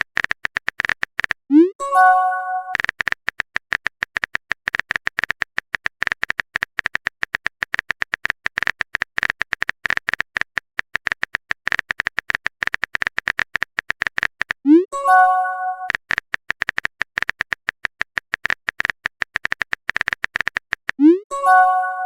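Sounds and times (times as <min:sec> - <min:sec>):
phone keyboard typing clicks: 0:00.0 - 0:22.0.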